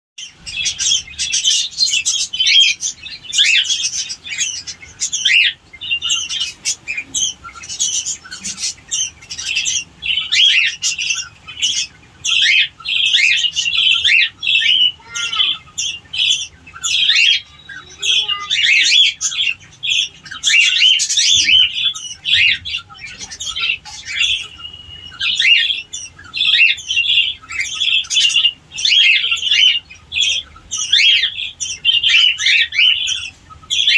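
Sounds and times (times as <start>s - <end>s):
cockatiels chirping and squawking: 0.2s - 33.9s.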